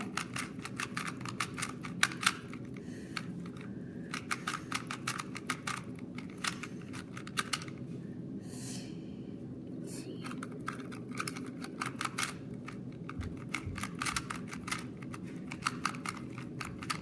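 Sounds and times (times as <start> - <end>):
puzzle cube plastic clicks: 0.0 - 7.8, 10.2 - 17.0.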